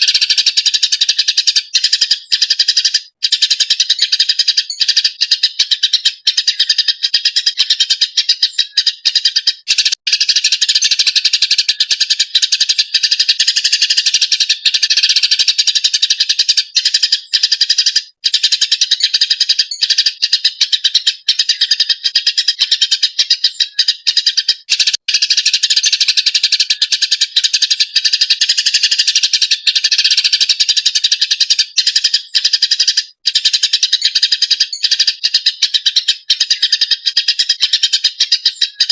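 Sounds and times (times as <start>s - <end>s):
sparrow chirping rapidly: 0.0s - 38.9s.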